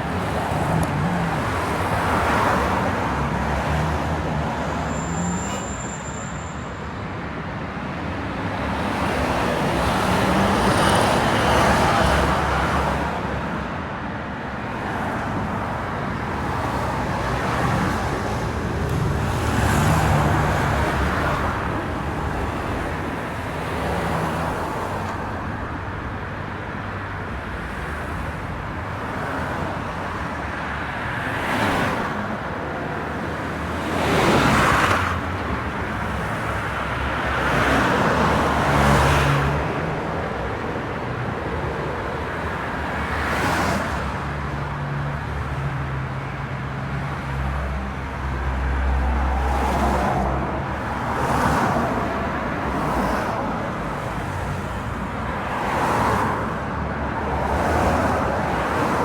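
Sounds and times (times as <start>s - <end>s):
cars passing: 0.0s - 59.0s
road traffic rumble: 0.0s - 59.0s.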